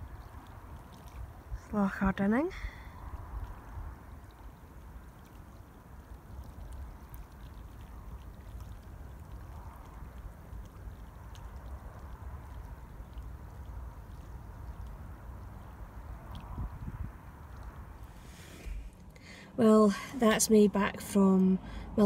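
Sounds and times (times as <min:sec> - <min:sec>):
wind rumbling on microphone: 0:00.0 - 0:05.2, 0:06.4 - 0:19.1
small waves lapping: 0:00.0 - 0:20.4.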